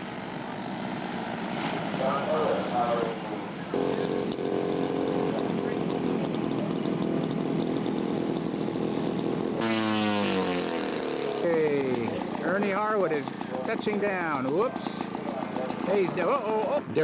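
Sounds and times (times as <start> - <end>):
model airplane engine running: 0.0 - 17.0.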